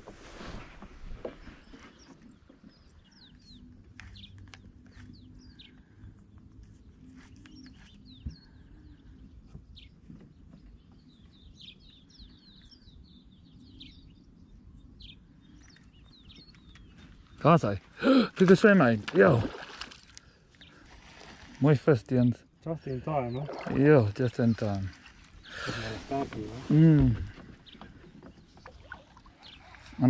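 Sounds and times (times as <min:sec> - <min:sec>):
small birds chirping: 0:01.2 - 0:30.0.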